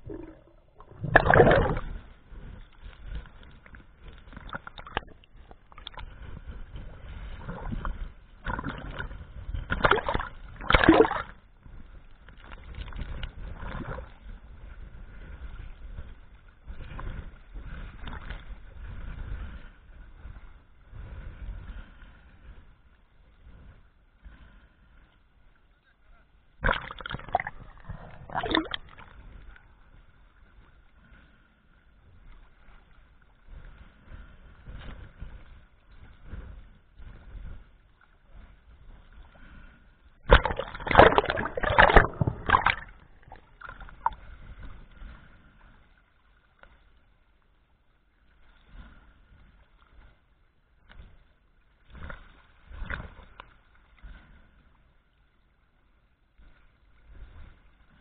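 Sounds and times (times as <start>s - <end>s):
muffled water splashing and bubbling: 0.0s - 58.0s.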